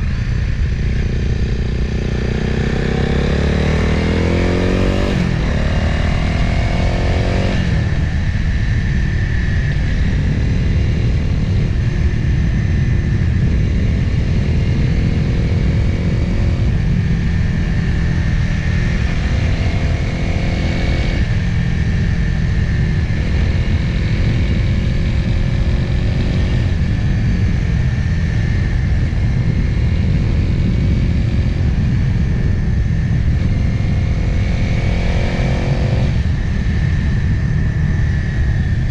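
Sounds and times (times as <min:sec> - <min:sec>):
motorcycle engine: 0:00.0 - 0:38.9
wind rush on microphone: 0:00.0 - 0:38.9.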